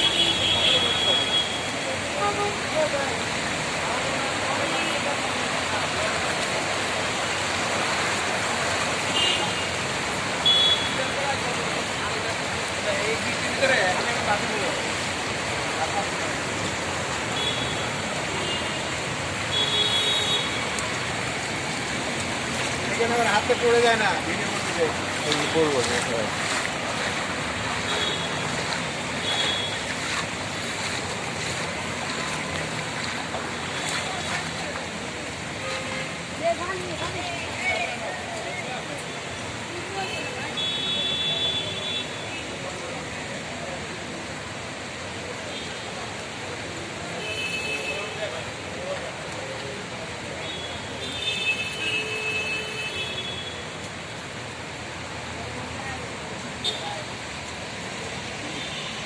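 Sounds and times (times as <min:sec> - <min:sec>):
heavy rain falling: 0:00.0 - 0:51.9, 0:53.1 - 0:59.0.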